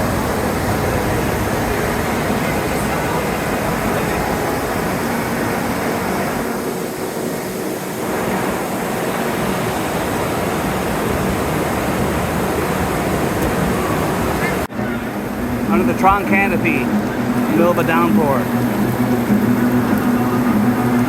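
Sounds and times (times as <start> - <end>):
heavy rain downpour: 0.0 - 21.0.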